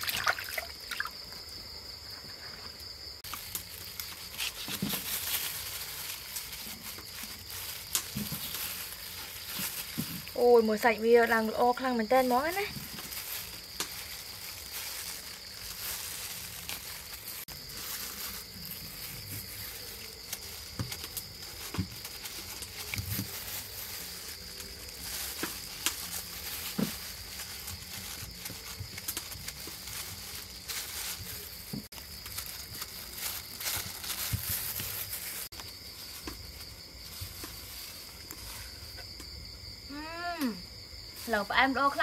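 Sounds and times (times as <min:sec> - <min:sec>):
insects chirring: 0:00.0 - 0:42.0.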